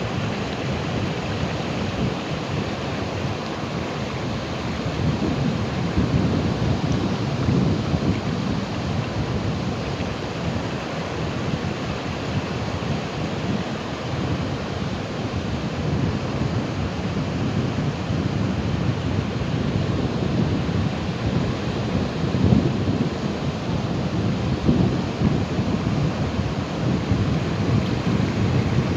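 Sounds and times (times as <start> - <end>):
ocean surf washing: 0.0 - 28.9.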